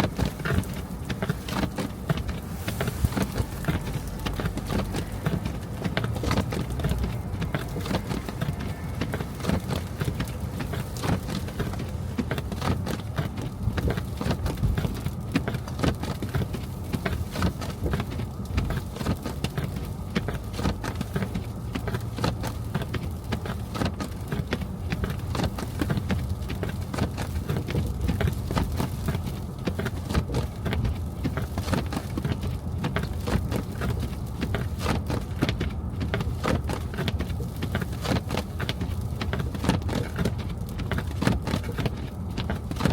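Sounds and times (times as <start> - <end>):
car engine and road rumble: 0.0 - 42.9
tyres crunching through snow: 0.0 - 42.9.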